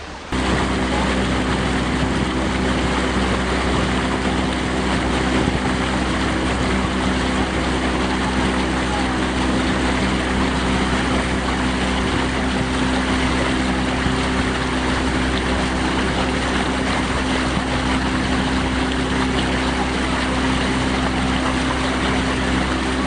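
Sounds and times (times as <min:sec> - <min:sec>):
low motor hum: 0:00.0 - 0:23.0
water washing against rocks: 0:00.3 - 0:23.0.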